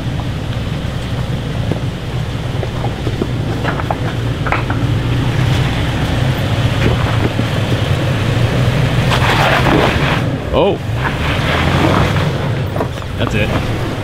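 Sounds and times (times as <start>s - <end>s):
rock cracking under tyres: 0.0s - 10.3s, 11.0s - 13.8s
vehicle engine under load: 0.0s - 14.0s.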